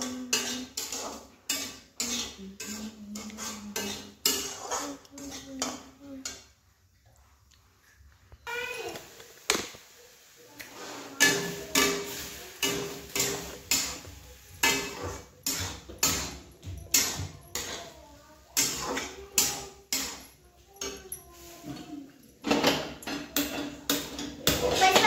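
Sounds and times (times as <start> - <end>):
steel ladle scraping and knocking pot: 0.0 - 6.4, 10.7 - 18.0, 18.6 - 25.0.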